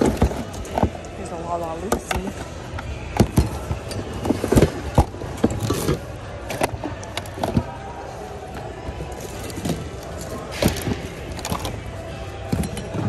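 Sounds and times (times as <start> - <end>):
hard goods knocking and clattering: 0.0 - 13.0.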